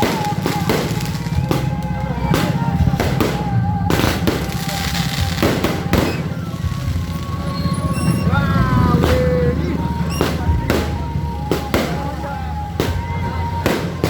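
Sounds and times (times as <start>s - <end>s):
fireworks bangs: 0.0s - 14.0s
steady drumming: 0.0s - 14.0s.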